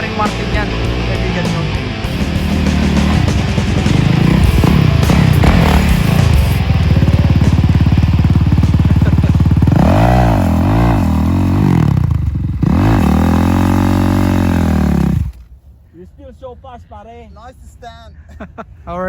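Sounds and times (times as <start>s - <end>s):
dirt bike engine revving: 0.0s - 15.5s.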